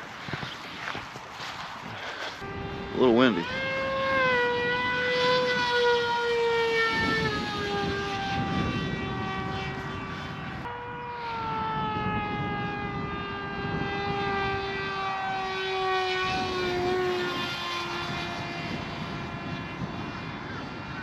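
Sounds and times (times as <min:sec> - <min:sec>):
wind buffeting microphone: 0:00.0 - 0:21.0
model plane motor whining: 0:02.0 - 0:10.7, 0:12.7 - 0:21.0.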